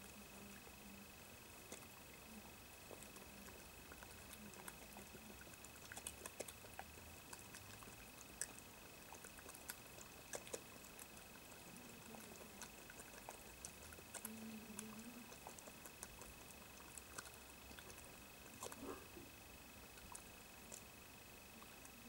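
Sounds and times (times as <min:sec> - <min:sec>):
badger chewing from a dish: 0:00.0 - 0:22.0.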